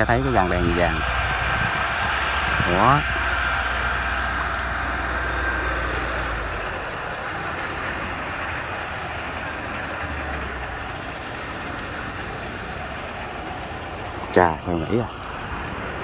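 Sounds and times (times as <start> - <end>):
combine harvester running: 0.0 - 16.0
low engine hum: 0.0 - 16.0.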